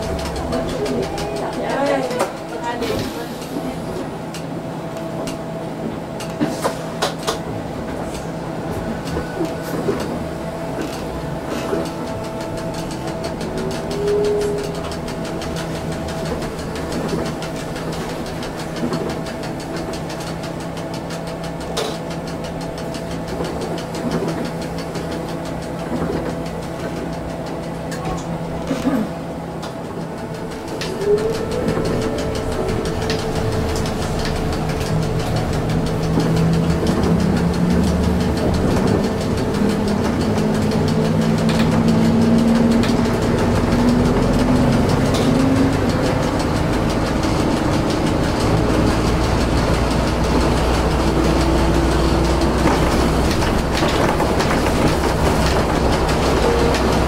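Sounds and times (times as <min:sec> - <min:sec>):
trolleybus electric hum: 0:00.0 - 0:57.0.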